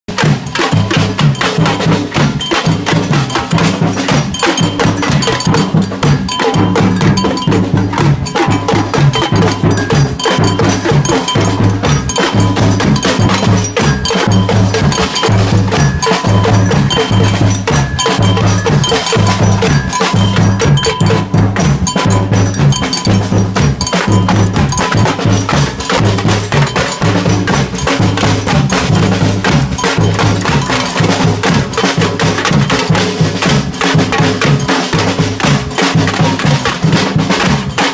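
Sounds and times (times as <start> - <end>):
cowbell-like bell tones: 0.1 - 37.9
percussive music with fast beat: 0.1 - 37.9.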